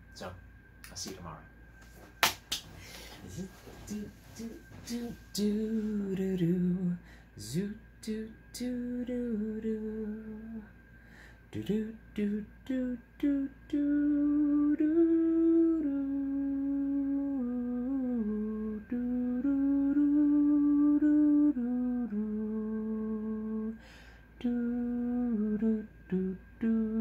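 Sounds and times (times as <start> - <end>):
man humming a slow tune: 3.2 - 10.7, 11.5 - 27.0.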